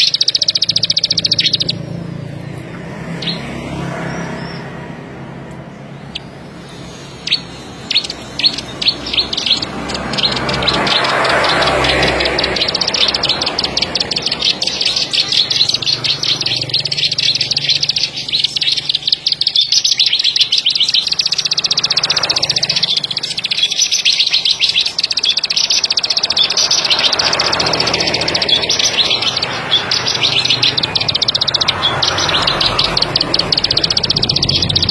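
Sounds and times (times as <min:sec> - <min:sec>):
bird singing high clicking notes: 0:00.0 - 0:34.9.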